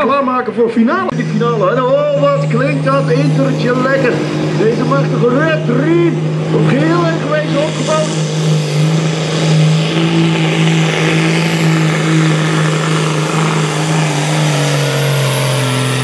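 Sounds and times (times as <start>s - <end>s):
tractor diesel engine at full power: 0.0s - 16.0s.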